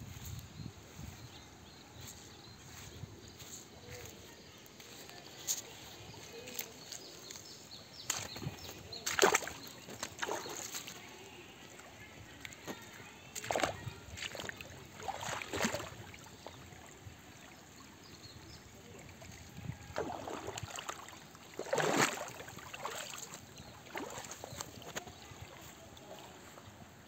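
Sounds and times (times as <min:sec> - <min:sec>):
stream trickling over stones: 0:03.5 - 0:27.0.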